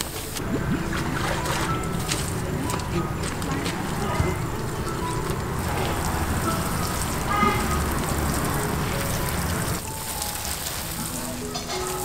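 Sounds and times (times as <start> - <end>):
water sprinkling onto plants: 0.0 - 12.0.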